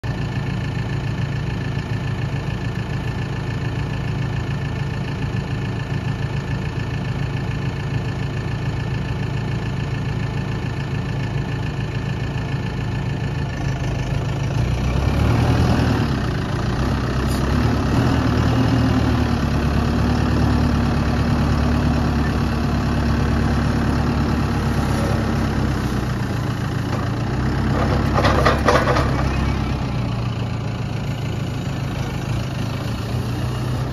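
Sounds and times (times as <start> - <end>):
tractor diesel engine: 0.0 - 33.9.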